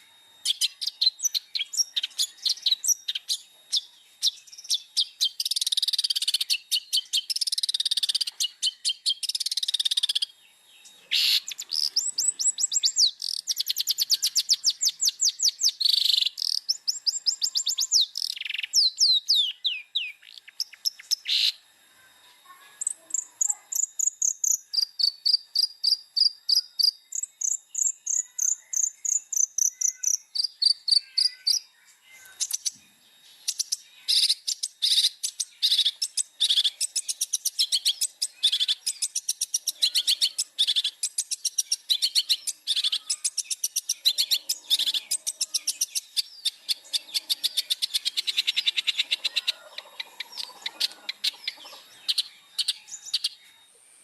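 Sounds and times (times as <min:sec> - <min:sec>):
shrike singing: 0:00.0 - 0:22.1, 0:22.7 - 0:53.6.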